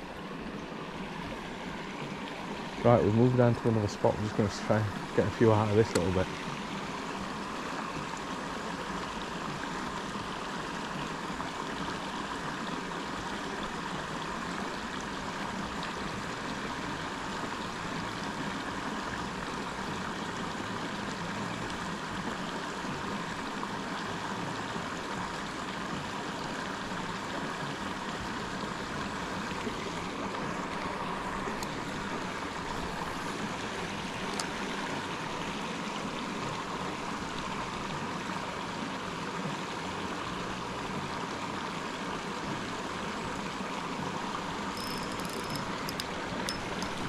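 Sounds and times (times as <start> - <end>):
running water rushing: 0.0 - 47.0.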